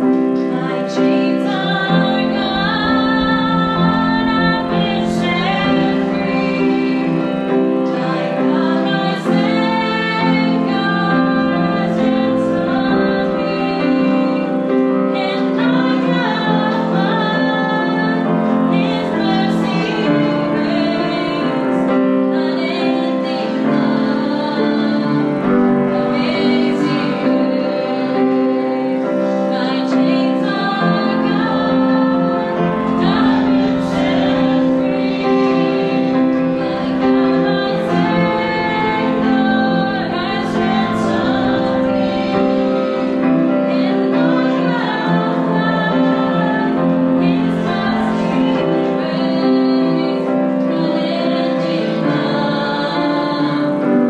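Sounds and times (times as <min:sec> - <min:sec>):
congregation singing: 0:00.0 - 0:54.0
instrumental accompaniment: 0:00.0 - 0:54.0
woman singing worship song: 0:00.0 - 0:54.0.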